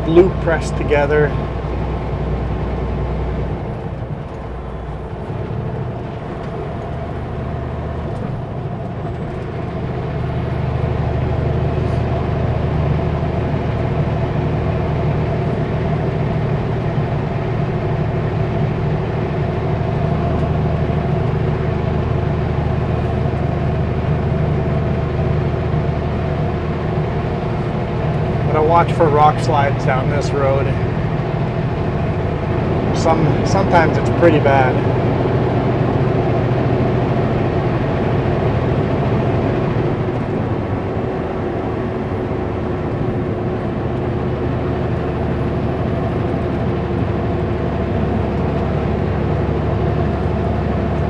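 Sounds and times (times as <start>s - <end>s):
road noise: 0.0s - 51.0s
truck diesel engine running: 0.0s - 51.0s.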